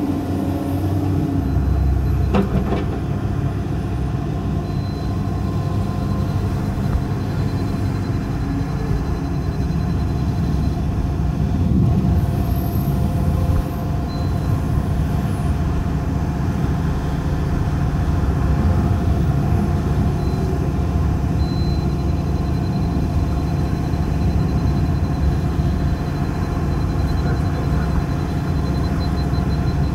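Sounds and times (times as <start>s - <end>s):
diesel machinery engine rumble: 0.0s - 29.9s.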